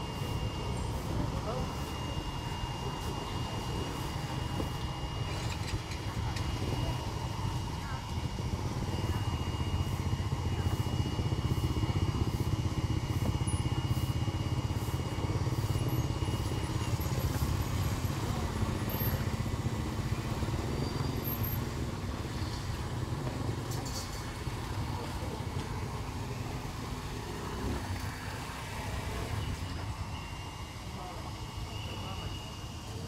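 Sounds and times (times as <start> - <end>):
engine running: 0.0 - 33.0
faint high whine: 0.0 - 33.0.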